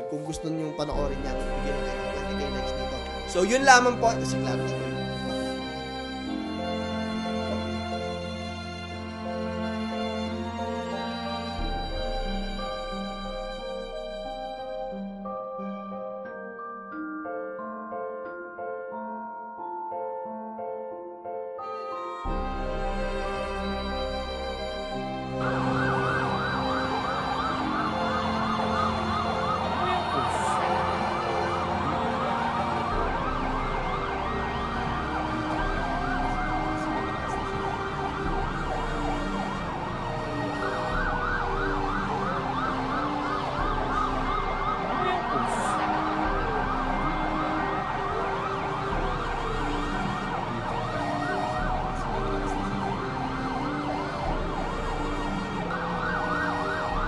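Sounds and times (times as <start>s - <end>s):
emergency vehicle sirens: 0.0s - 15.8s, 22.0s - 57.0s.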